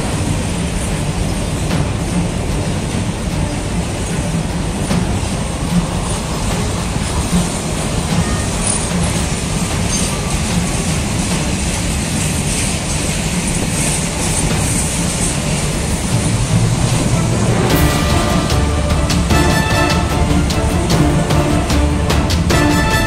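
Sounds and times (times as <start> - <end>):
train wheels rumbling on rails: 0.0 - 23.0
wheels clacking over rail joints: 0.0 - 23.0.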